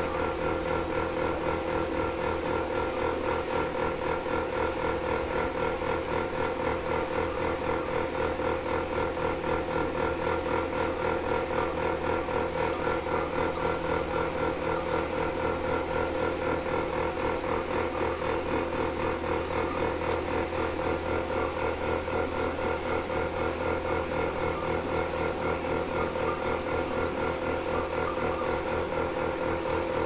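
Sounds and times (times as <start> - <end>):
milking machine whirring: 0.0 - 30.0.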